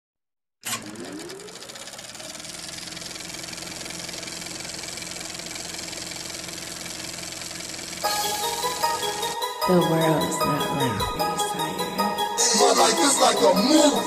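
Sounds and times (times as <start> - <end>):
buzzing engine-like drone: 0.7 - 14.0.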